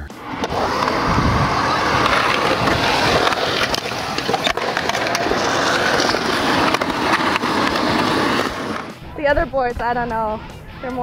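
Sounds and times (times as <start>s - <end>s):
skateboard clacks: 0.0s - 9.0s
skateboard wheels rolling on concrete: 0.0s - 9.0s.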